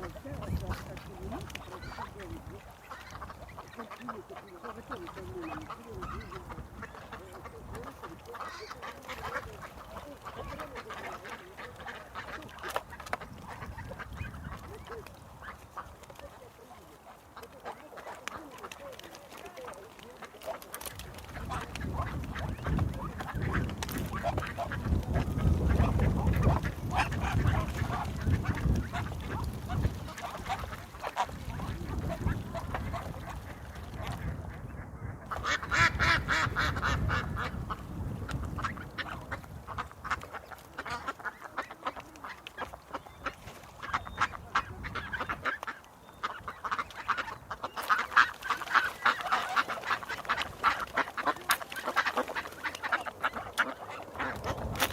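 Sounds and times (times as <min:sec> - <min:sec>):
ducks quacking: 0:00.0 - 0:54.9.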